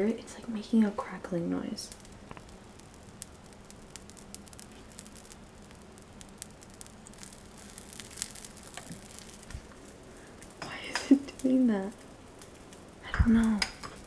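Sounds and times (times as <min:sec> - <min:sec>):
coffee crackling: 0:00.1 - 0:14.0.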